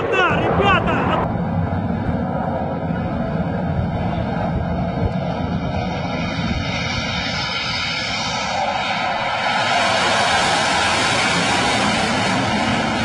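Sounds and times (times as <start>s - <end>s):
jet engines hissing: 0.0s - 2.2s, 2.8s - 13.0s
steady rumbling: 0.0s - 13.0s.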